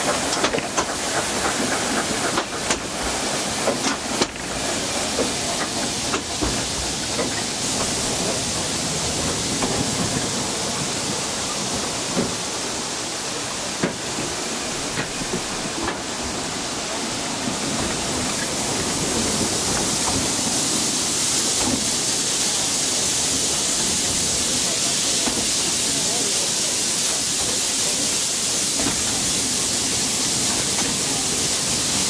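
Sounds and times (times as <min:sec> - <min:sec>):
wheels rushing on rail: 0:00.0 - 0:32.0.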